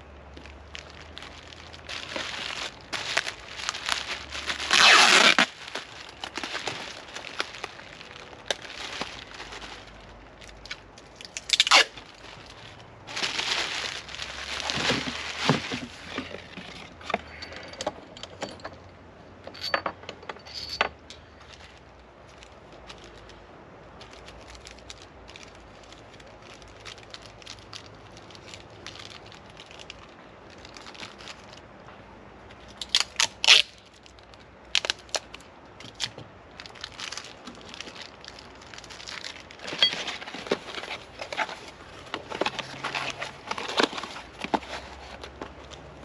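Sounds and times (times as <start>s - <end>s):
packaging crinkling and tearing: 0.3s - 16.6s, 24.0s - 31.6s, 32.8s - 46.0s.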